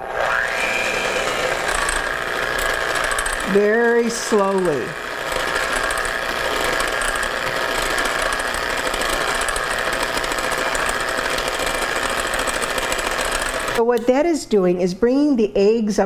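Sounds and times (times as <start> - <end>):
electric hand mixer running: 0.0 - 13.8.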